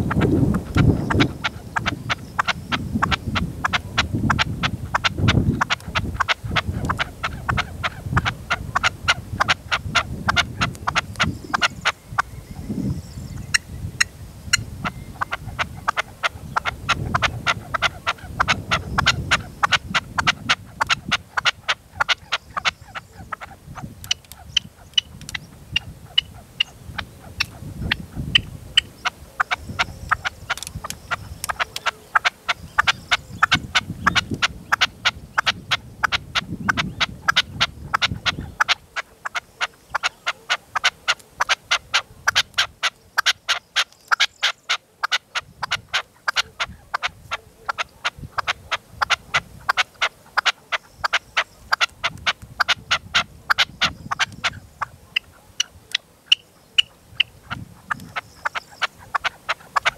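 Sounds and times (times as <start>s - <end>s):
wind rumbling on microphone: 0.0s - 43.7s, 45.3s - 59.9s
partridge calling: 0.0s - 59.9s.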